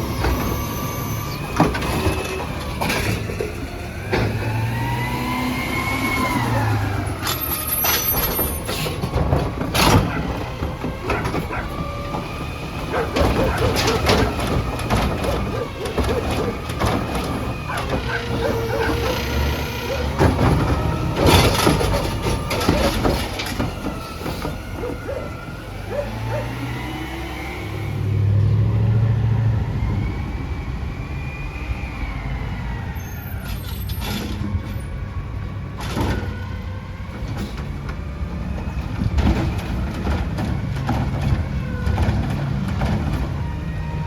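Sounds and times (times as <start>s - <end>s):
garbage truck engine running: 0.0s - 44.0s.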